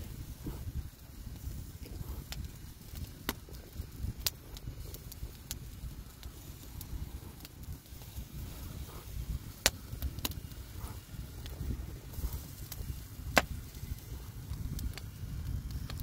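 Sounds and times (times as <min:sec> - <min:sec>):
wind rumble on microphone: 0:00.0 - 0:16.0
wood fire crackling and popping: 0:00.0 - 0:16.0.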